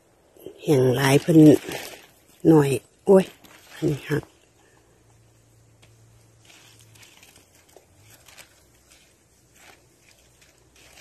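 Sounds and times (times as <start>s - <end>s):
rustling leaf litter: 0.6s - 4.7s, 5.8s - 11.0s.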